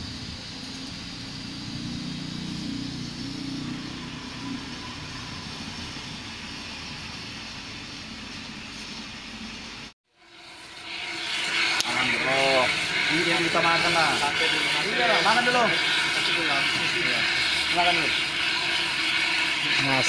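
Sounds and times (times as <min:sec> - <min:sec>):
liquid nitrogen hissing rush: 0:00.0 - 0:20.0
low rumble of boiling: 0:00.0 - 0:20.0.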